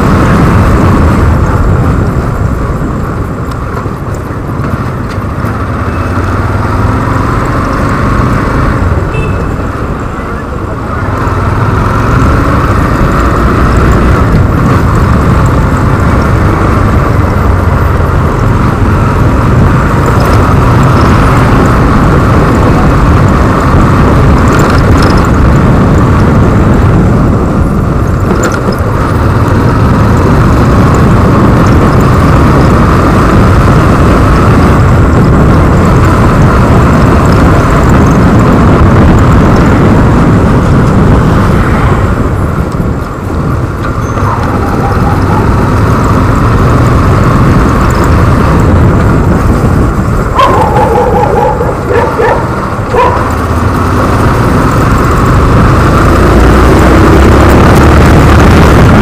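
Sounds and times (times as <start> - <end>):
motorcycle engine rumble: 0.0 - 59.0
wind and road noise: 0.0 - 59.0.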